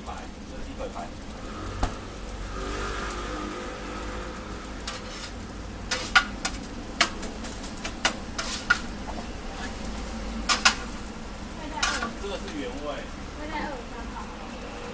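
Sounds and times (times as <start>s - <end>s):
crepes sizzling on griddle: 0.0s - 14.9s.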